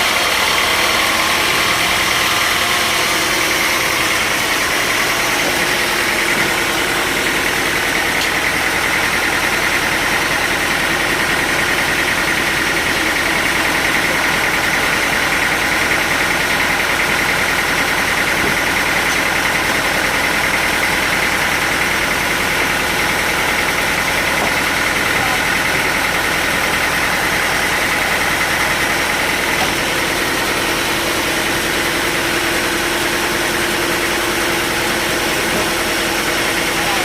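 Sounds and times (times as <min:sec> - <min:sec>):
sawmill machinery drone: 0:00.0 - 0:37.0.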